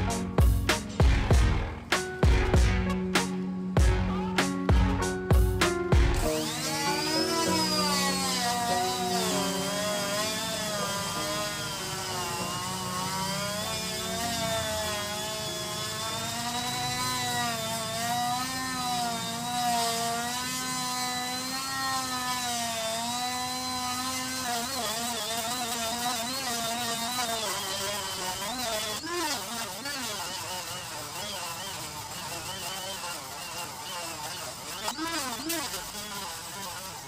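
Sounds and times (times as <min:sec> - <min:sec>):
rotary tool grinding plastic: 0:06.2 - 0:37.0.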